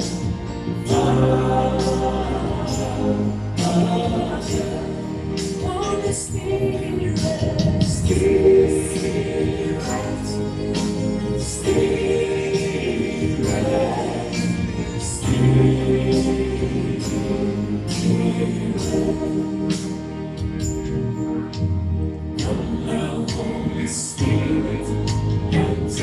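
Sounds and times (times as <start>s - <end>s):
choir singing held notes: 0.0s - 20.8s, 22.4s - 26.0s
band playing steady beat: 0.0s - 26.0s.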